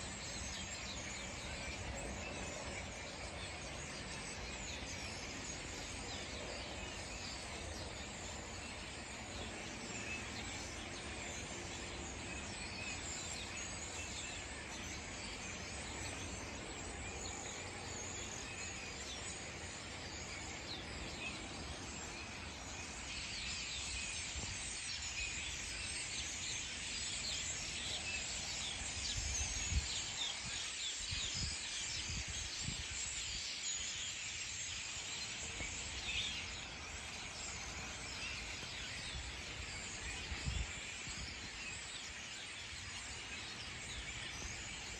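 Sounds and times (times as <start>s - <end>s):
flock of starlings chattering: 0.0s - 44.9s.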